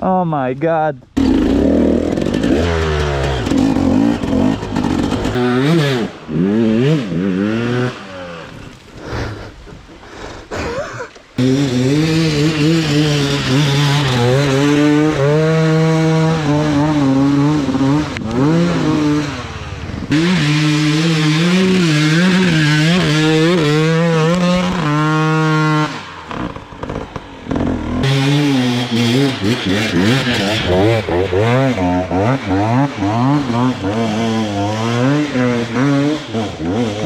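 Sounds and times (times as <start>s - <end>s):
dirt bike engine revving: 1.2s - 9.5s, 10.8s - 37.0s.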